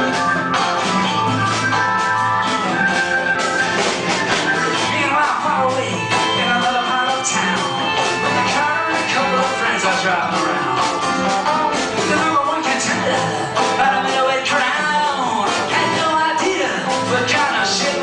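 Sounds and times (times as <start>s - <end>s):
live rock band music: 0.0s - 18.0s.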